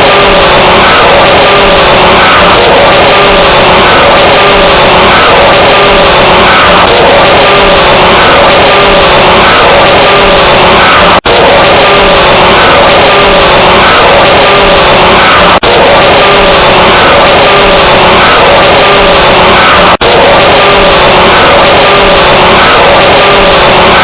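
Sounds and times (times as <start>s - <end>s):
harsh distorted noise: 0.0s - 24.0s.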